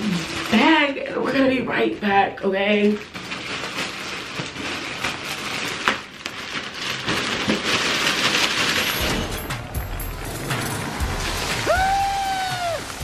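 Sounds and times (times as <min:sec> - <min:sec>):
plastic bag crinkling: 0:00.0 - 0:01.5, 0:02.4 - 0:13.0.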